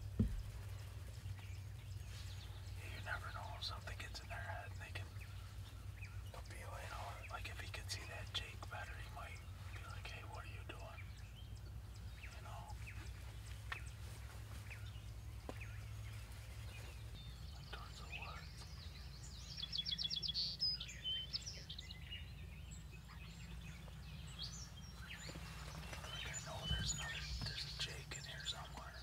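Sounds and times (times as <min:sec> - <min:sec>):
faint bird chirps: 0:00.0 - 0:29.0
low outdoor rumble: 0:00.0 - 0:29.0
songbird trilling: 0:00.1 - 0:29.0.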